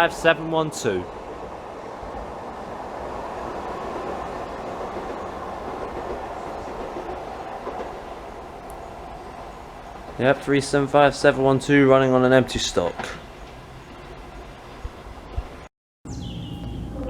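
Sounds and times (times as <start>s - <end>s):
train wheels rolling on rail: 0.0s - 15.7s.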